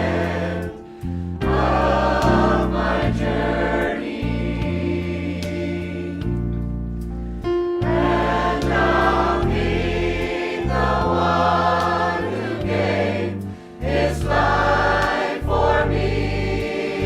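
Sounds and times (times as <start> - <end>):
gospel choir singing: 0.0 - 6.6, 7.8 - 17.0
instrumental accompaniment: 0.0 - 17.0.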